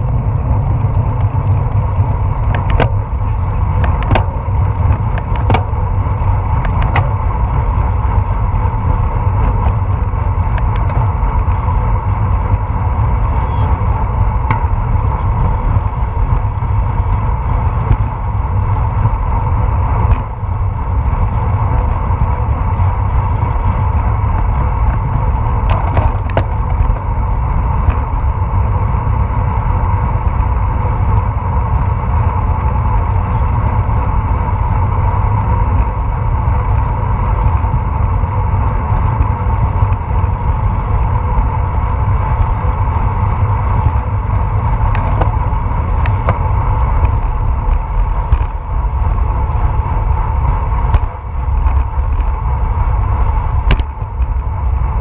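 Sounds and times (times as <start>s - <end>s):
bicycle road rumble: 0.0s - 55.0s
wind noise on microphone: 0.0s - 55.0s.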